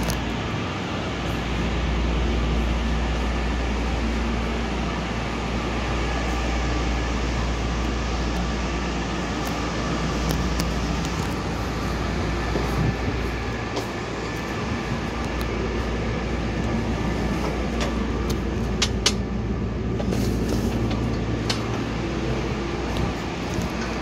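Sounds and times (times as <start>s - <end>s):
train equipment hum: 0.0s - 24.0s.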